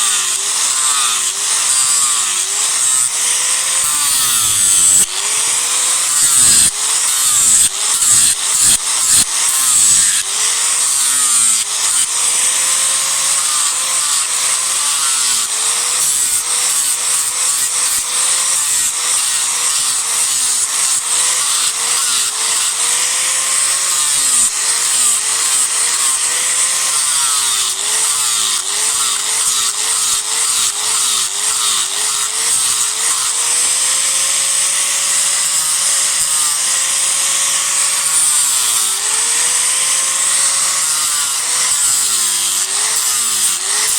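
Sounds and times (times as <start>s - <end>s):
disc grinder carving wood: 0.0s - 43.9s.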